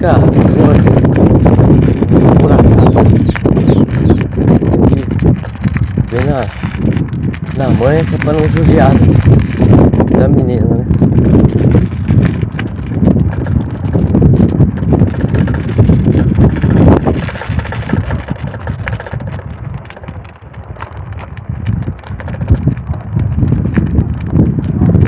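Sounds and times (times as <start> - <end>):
bicycle clicks and rattles: 0.0 - 25.0
wind buffeting microphone: 0.0 - 25.0.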